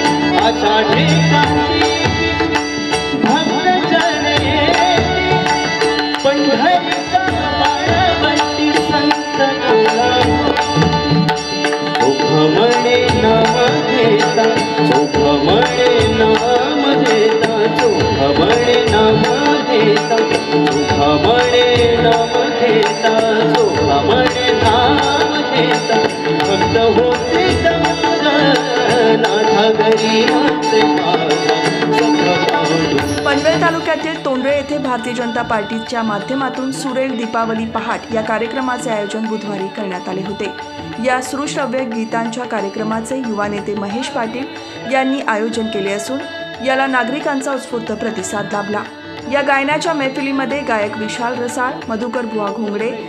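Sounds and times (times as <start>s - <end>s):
hand drum rhythm: 0.0s - 53.0s
harmonium: 0.0s - 53.0s
man singing into a microphone: 0.0s - 53.0s.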